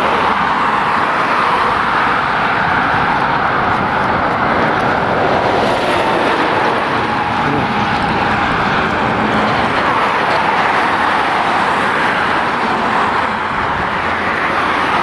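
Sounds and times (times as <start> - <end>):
road traffic passing close: 0.0 - 15.0.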